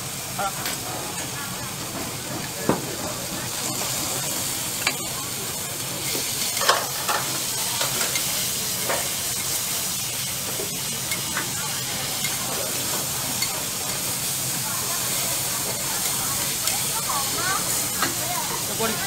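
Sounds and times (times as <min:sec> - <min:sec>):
vegetables sizzling on griddle: 0:00.0 - 0:19.0.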